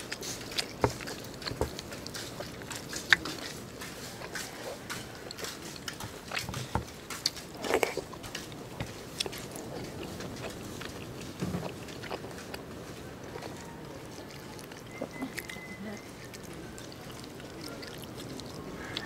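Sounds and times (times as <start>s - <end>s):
man chewing with smacks: 0.0s - 19.0s.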